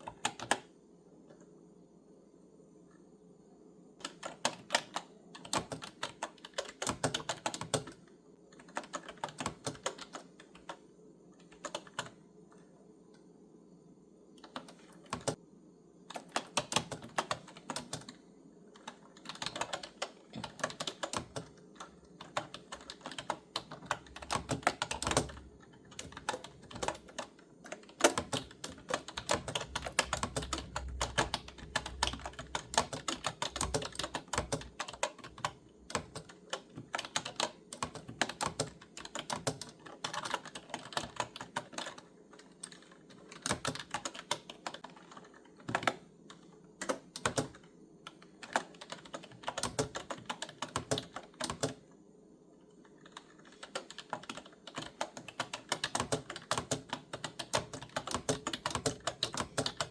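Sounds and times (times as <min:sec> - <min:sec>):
clicky keyboard typing: 0:00.0 - 0:00.7, 0:04.0 - 0:13.3, 0:14.3 - 0:15.4, 0:16.1 - 0:51.8, 0:52.7 - 0:59.9.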